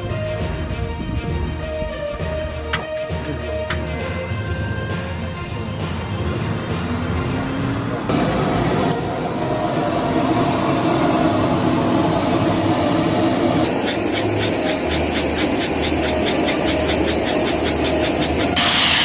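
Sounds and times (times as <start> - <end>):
rotor blades beating: 2.4 - 19.0
helicopter engine and rotor: 2.9 - 19.0
high turbine whine: 3.3 - 19.0.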